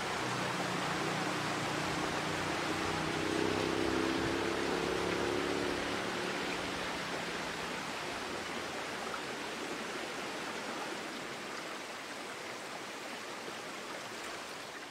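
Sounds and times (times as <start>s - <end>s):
mountain stream rushing: 0.0s - 14.9s.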